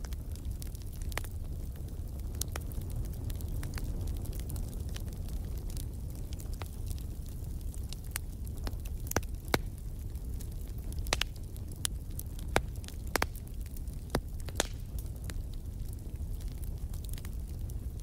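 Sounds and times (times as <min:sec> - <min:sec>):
fire burning in fireplace: 0:00.0 - 0:18.0
logs crackling and popping: 0:00.0 - 0:18.0.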